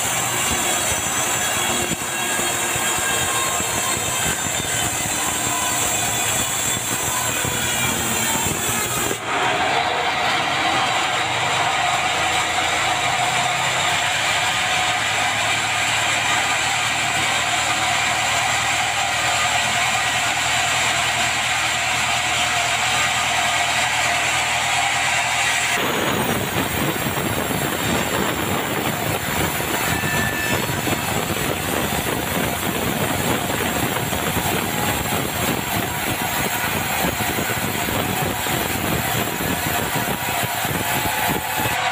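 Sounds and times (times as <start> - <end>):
band saw cutting log: 0.0 - 41.9.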